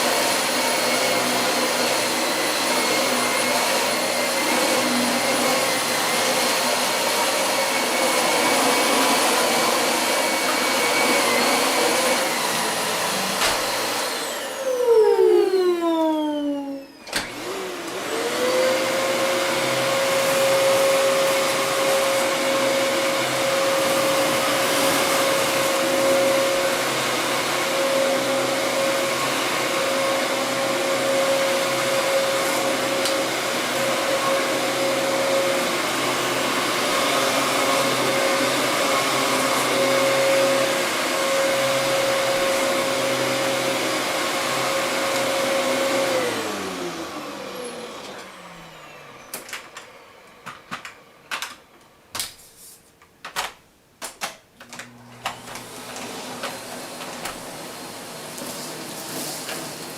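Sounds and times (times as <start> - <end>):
vacuum cleaner running: 0.0 - 52.1, 54.7 - 59.9.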